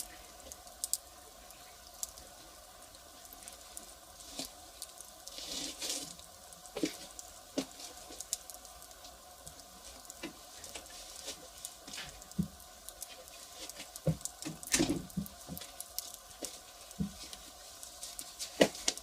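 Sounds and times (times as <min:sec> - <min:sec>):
fire hissing: 0:00.0 - 0:19.0
wood fire crackling and popping: 0:00.0 - 0:19.0.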